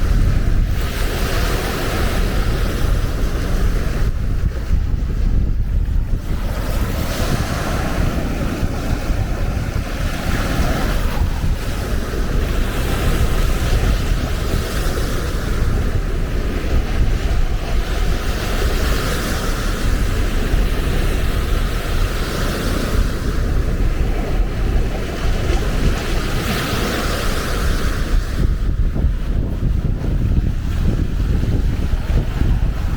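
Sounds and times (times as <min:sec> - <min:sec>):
surf washing onto beach: 0:00.0 - 0:32.9
wind buffeting microphone: 0:00.0 - 0:32.9.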